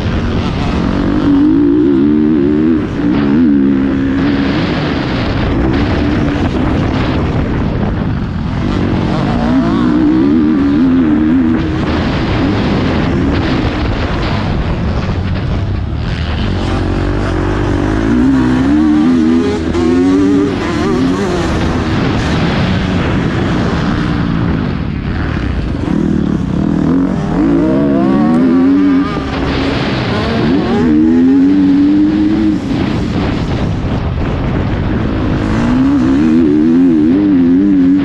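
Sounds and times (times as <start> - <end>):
heavy rushing noise: 0.0 - 38.0
motocross bike engine revving: 0.0 - 38.0.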